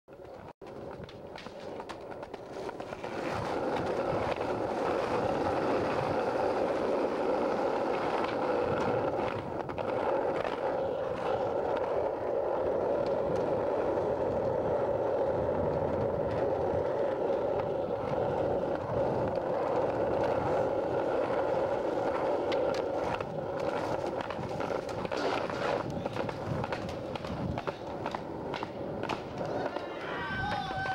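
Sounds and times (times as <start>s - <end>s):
skateboard clicks and knocks: 0.1s - 30.9s
skateboard wheels rolling on concrete: 0.1s - 30.9s.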